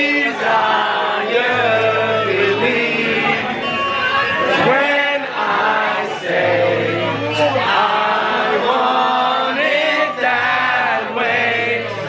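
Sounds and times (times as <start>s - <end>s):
men singing into a microphone: 0.0s - 12.0s.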